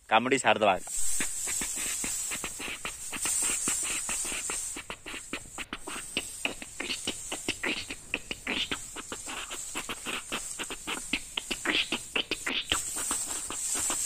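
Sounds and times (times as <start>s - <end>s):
high-pitched hiss: 0.0s - 14.0s
dry straw rustling and crackling: 0.6s - 14.0s.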